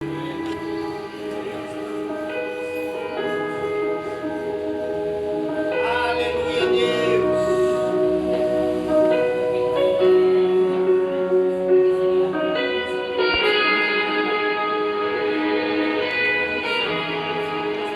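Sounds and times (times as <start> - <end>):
slow song with held notes: 0.0 - 17.9.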